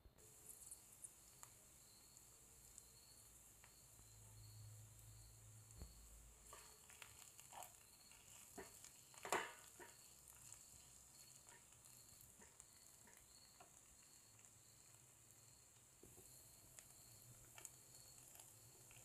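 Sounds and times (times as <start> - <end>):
spatula scraping and tapping pan: 0.4 - 19.0.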